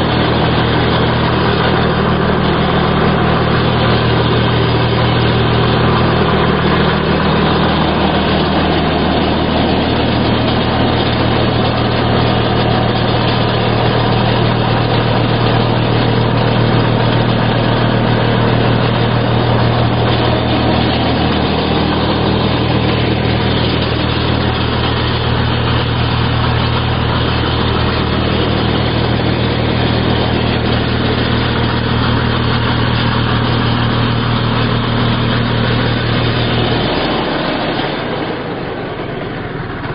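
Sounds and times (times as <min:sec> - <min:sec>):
hedge trimmer running: 0:00.0 - 0:39.9.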